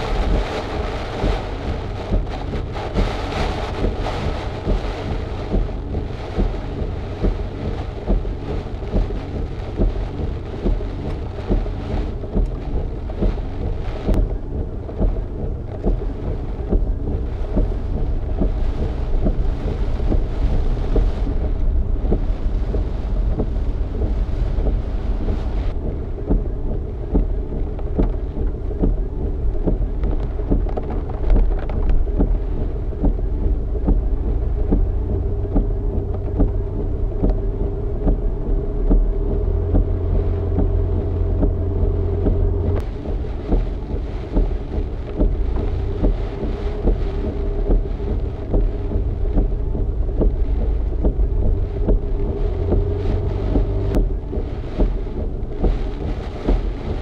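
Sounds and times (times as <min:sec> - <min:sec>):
car engine and road rumble: 0:00.0 - 0:57.0
rain and wind noise: 0:00.0 - 0:57.0.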